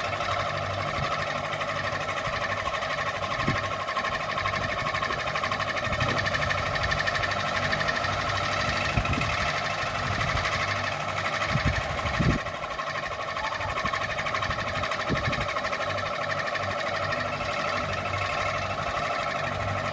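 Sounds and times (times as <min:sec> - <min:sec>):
ceiling fan whining: 0:00.0 - 0:19.9.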